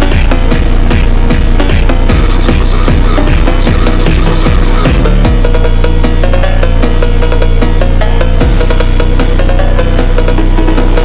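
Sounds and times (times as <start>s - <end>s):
deep bass hits dropping in pitch: 0.0s - 11.0s
electronic dance music: 0.0s - 11.0s.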